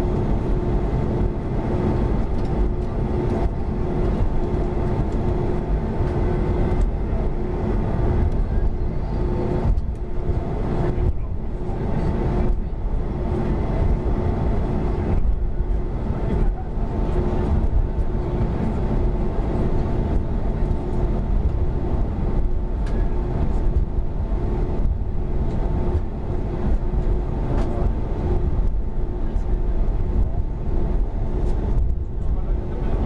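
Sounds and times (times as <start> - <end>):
jet engine cabin rumble: 0.0 - 33.0
steady humming tones: 0.0 - 33.0.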